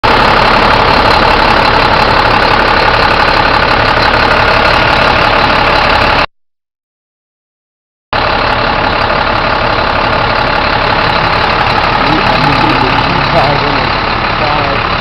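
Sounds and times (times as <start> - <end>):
diesel truck engine idling: 0.0 - 6.3, 8.2 - 15.0.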